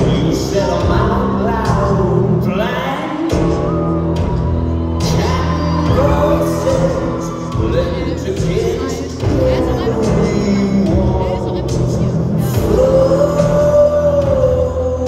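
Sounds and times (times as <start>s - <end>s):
low bass notes: 0.0s - 15.0s
man singing: 0.0s - 15.0s
rock band playing live: 0.0s - 15.0s.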